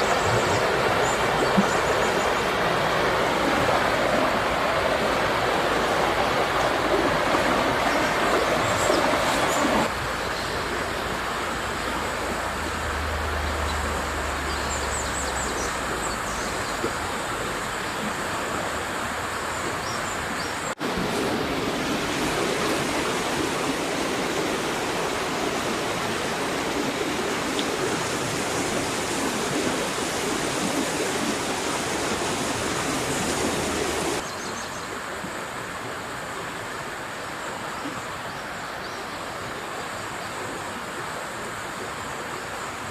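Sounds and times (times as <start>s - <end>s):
river rushing: 0.0s - 42.9s.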